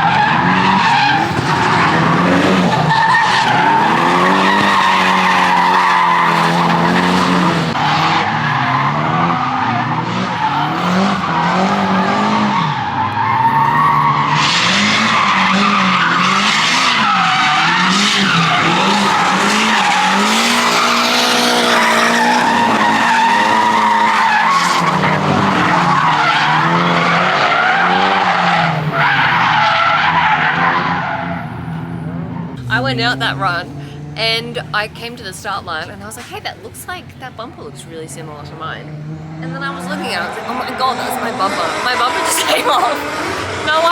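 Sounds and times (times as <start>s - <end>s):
car engine revving: 0.0s - 43.9s
tyres skidding: 0.0s - 43.9s.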